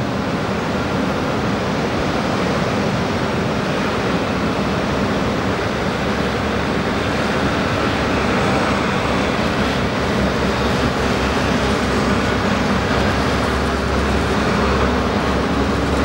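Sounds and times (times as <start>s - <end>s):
ocean surf rushing: 0.0s - 16.0s
passenger train approaching: 0.0s - 16.0s
road traffic: 0.0s - 16.0s
wind: 0.0s - 16.0s.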